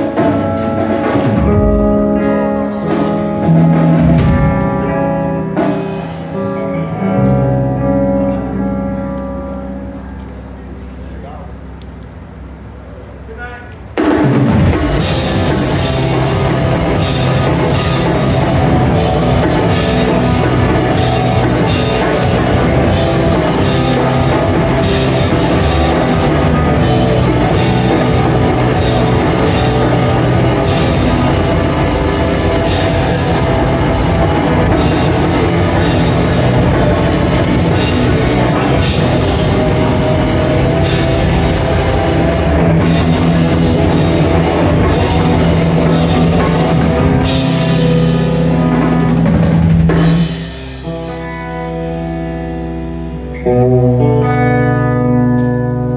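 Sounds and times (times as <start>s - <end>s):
hardcore band playing live: 0.0s - 12.4s, 13.8s - 55.9s.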